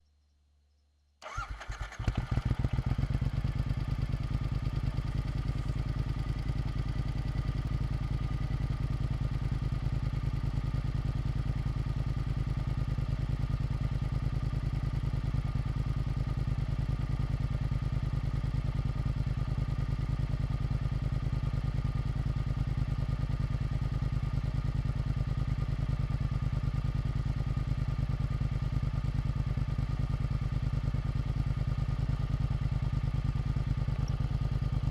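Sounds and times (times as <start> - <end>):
motorcycle engine starting and idling: 1.2 - 34.9.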